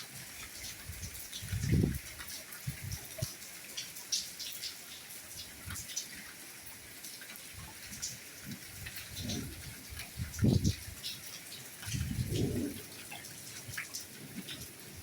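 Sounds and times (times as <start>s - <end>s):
rain hissing: 0.0s - 15.0s
raindrops ticking: 0.0s - 15.0s.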